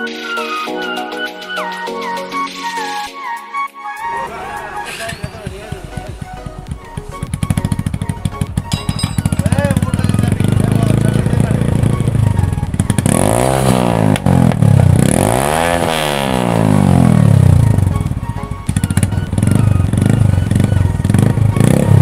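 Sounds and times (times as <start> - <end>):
motorcycle engine revving: 4.1 - 22.0.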